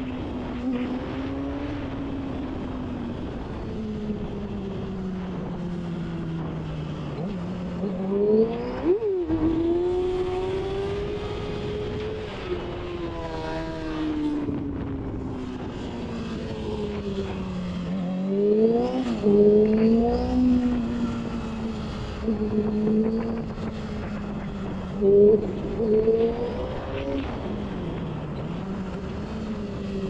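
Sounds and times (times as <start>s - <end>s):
motorcycle engine revving: 0.0s - 30.0s
wind rushing over microphone: 0.0s - 30.0s.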